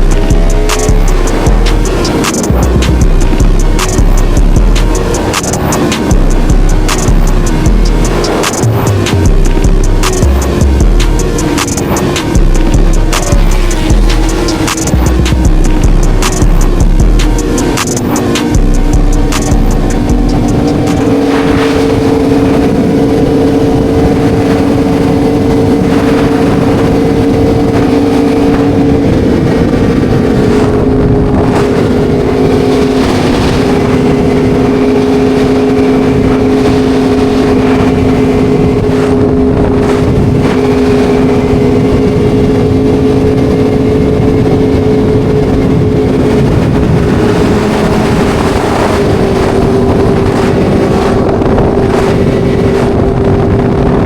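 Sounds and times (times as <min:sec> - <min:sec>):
motorcycle engine droning: 0:00.0 - 0:54.0
wind rushing: 0:00.0 - 0:54.0.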